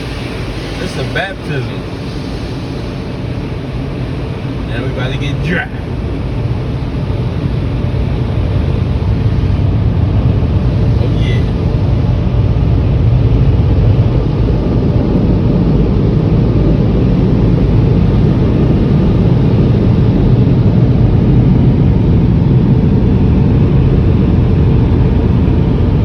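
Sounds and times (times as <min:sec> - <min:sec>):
car wash dryer blowers: 0:00.0 - 0:22.1.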